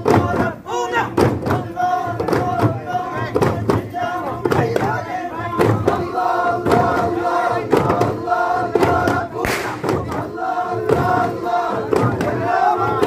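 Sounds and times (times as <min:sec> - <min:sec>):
frame drum strikes: 0:00.0 - 0:13.0
men chanting in unison: 0:00.0 - 0:13.0.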